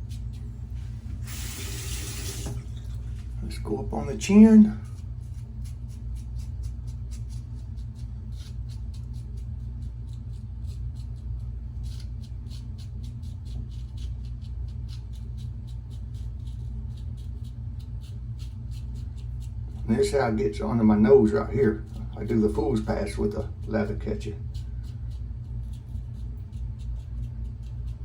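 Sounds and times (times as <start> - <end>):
low hum: 0.0 - 28.0
razor scraping stubble: 0.0 - 28.0.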